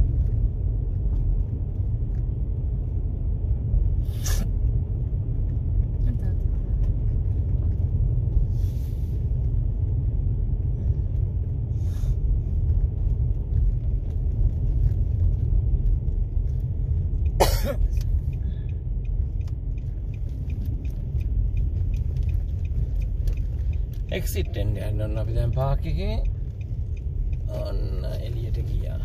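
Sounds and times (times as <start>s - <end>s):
road rumble inside moving car: 0.0s - 29.0s.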